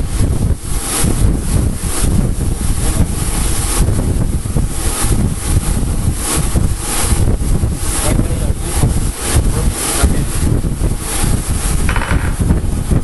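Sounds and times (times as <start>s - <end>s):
cutting torch flame hissing: 0.0s - 13.0s.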